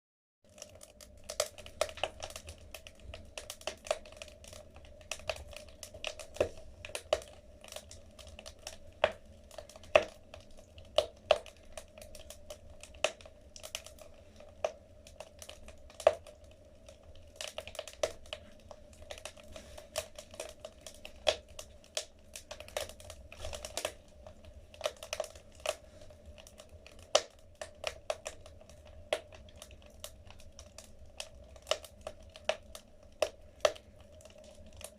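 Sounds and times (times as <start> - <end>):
wood fire crackling: 0.5 - 34.9.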